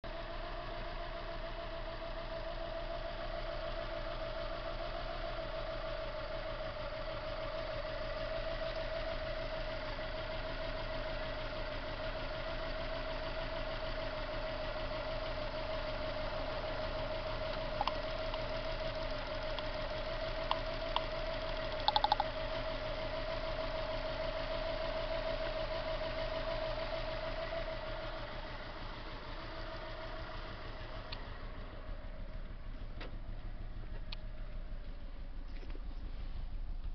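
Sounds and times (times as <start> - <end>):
engine idling roughly: 0.0 - 36.9.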